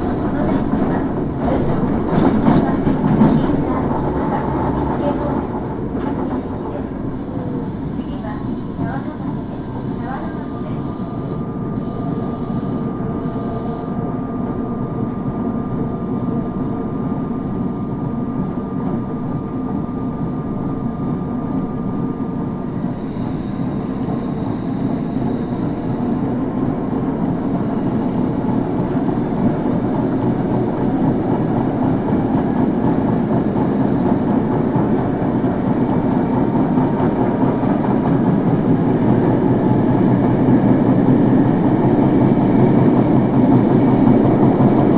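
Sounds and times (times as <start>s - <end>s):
subway car running noise: 0.0s - 44.9s.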